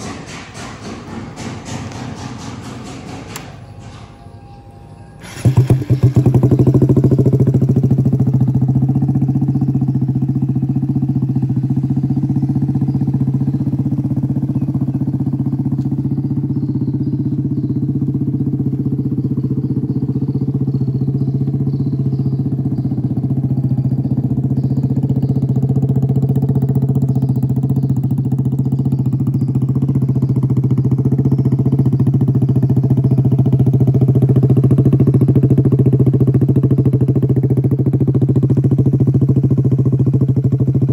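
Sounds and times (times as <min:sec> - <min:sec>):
motorcycle engine idling: 0:00.0 - 0:04.5, 0:05.2 - 0:40.9.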